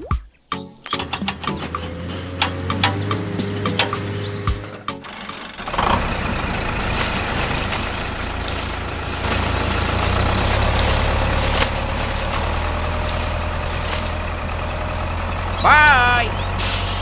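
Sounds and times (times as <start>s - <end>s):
vehicle engine running: 0.9s - 17.0s.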